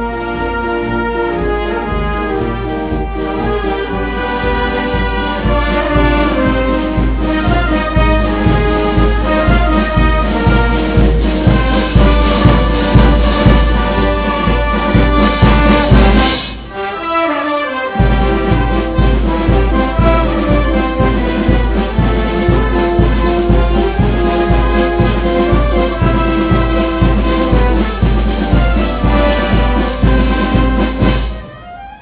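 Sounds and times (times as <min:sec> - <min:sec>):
brass band music: 0:00.0 - 0:32.0.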